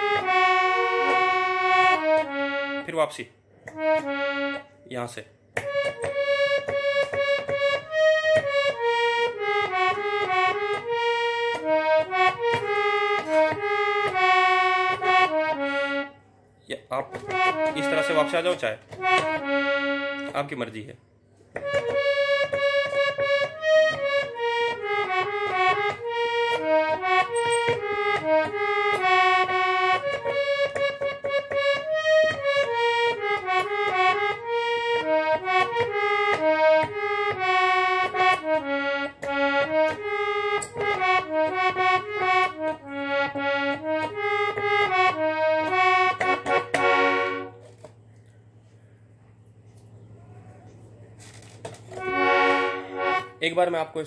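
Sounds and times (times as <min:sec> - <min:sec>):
harmonium melody: 0:00.0 - 0:48.0, 0:50.7 - 0:54.0.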